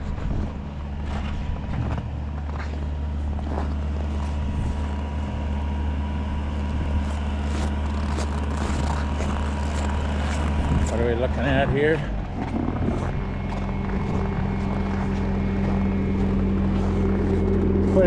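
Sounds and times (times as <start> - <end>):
skid steer engine under load: 0.0 - 18.0
thin steady whine: 0.0 - 18.0.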